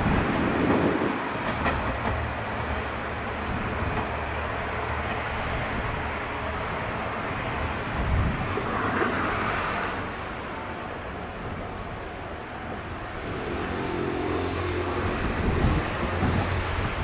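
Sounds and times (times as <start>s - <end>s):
diesel train engine rumble: 0.0s - 17.0s.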